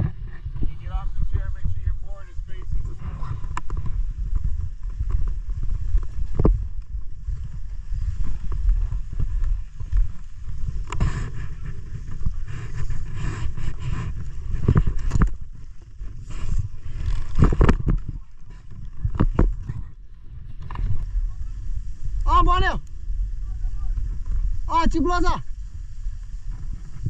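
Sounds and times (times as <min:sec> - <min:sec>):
gusty wind on microphone: 0:00.0 - 0:27.0.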